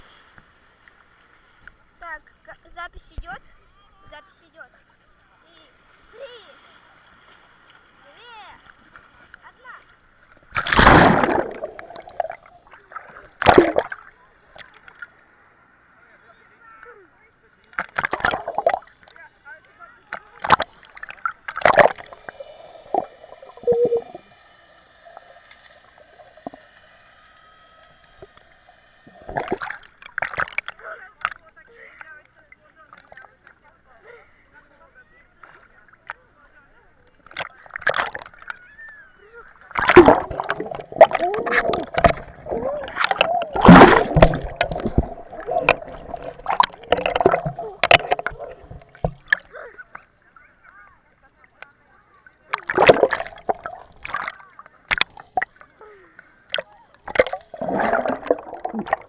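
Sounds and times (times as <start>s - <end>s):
water splashing: 0.0s - 59.0s
water gurgling: 5.2s - 59.0s.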